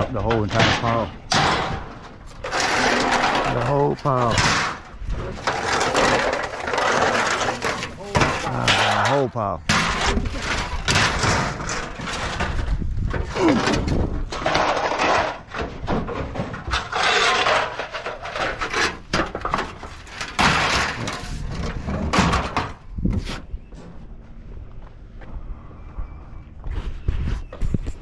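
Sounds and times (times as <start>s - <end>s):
scrap metal crashing and clattering: 0.0s - 22.9s.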